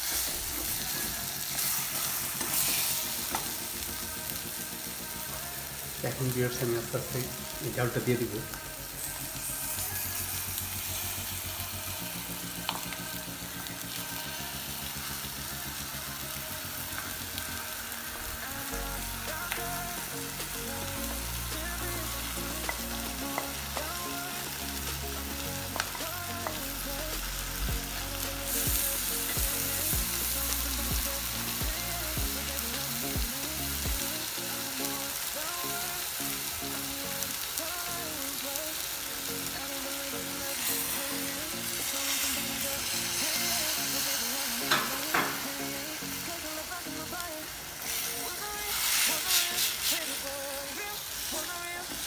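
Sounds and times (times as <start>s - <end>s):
food sizzling in a frying pan: 0.0s - 52.0s.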